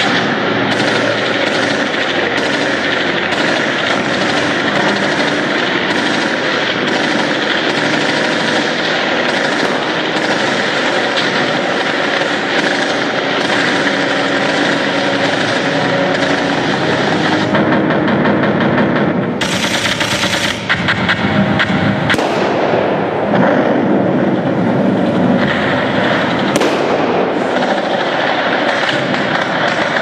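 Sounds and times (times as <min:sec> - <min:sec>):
sharp bang: 0:00.0 - 0:24.2
simulated machine-gun fire: 0:00.0 - 0:24.4, 0:25.2 - 0:30.0
steady rumble: 0:00.0 - 0:30.0.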